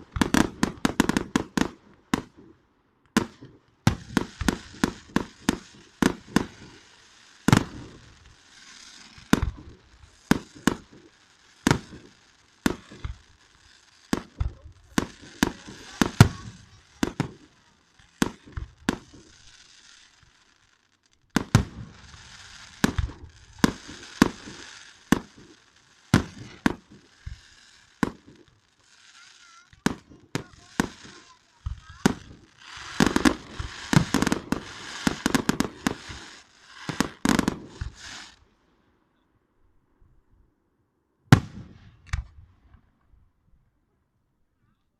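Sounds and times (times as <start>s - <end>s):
fireworks bangs: 0.0s - 38.5s, 41.3s - 43.0s
crackling hiss: 0.0s - 38.8s.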